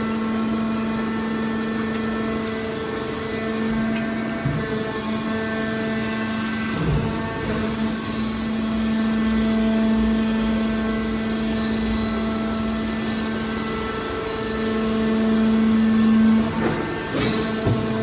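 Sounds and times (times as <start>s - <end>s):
hydraulic baler humming: 0.0s - 18.0s.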